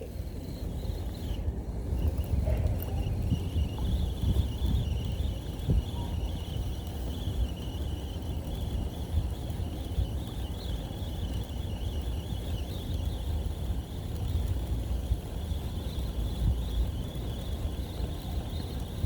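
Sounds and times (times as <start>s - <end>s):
fishing reel cranking: 0.0s - 19.0s
knocking rattle from reel: 0.0s - 19.0s.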